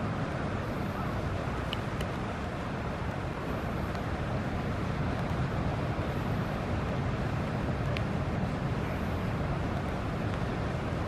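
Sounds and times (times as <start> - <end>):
outdoor rumble and hiss: 0.0 - 11.0.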